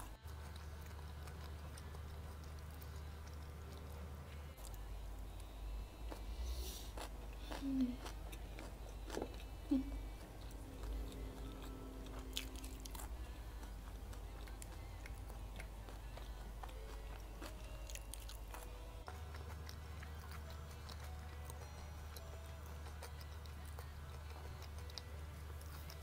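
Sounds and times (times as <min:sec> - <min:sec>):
quiet chewing: 0:00.0 - 0:26.0.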